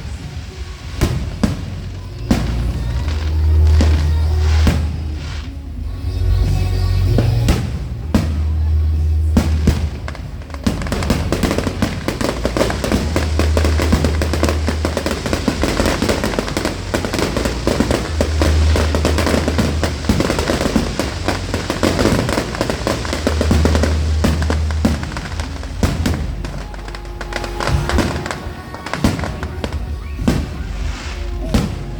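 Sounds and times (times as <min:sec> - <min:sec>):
fireworks crackling and popping: 0:00.0 - 0:31.9
low rumble: 0:00.0 - 0:31.9.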